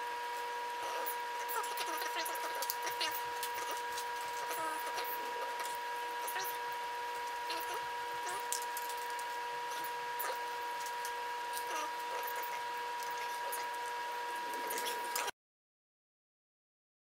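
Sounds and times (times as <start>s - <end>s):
steady high tone hum: 0.0s - 15.4s.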